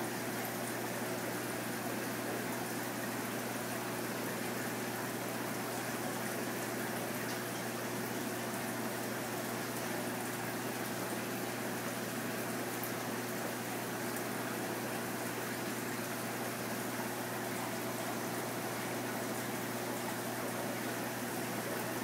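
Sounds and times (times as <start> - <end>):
aquarium water rushing: 0.0 - 22.0
pump hum: 0.0 - 22.0.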